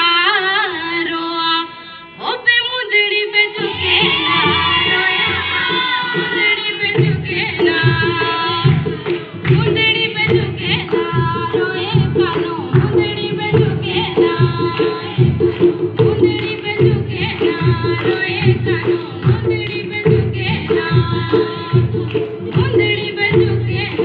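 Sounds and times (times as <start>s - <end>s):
steady drum beat: 3.7s - 24.0s.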